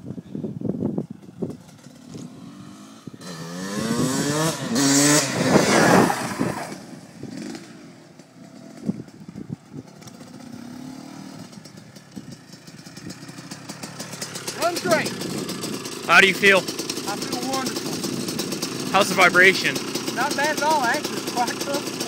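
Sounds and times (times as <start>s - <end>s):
dirt bike engine revving: 1.4s - 22.0s.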